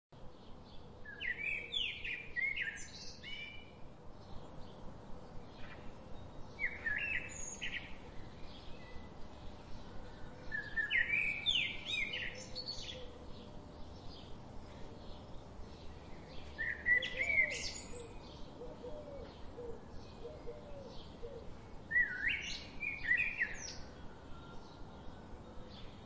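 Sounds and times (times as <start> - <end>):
soft outdoor hiss: 0.1 - 26.0
songbird chirping: 0.2 - 26.0.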